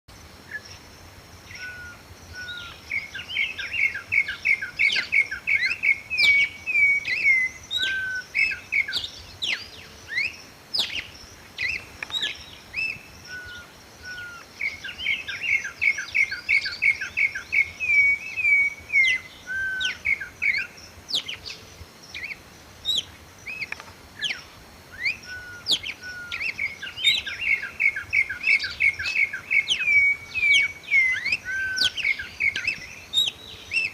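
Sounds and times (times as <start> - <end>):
sharp bird chirps: 0.5 - 33.9
bird whistling song: 1.4 - 33.9.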